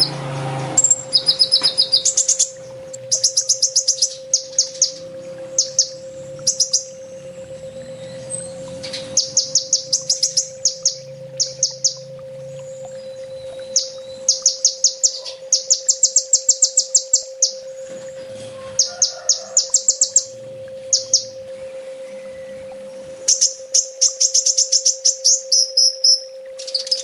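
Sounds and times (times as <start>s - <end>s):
steady hum: 0.0s - 27.0s
sunbird chirping: 0.0s - 27.0s.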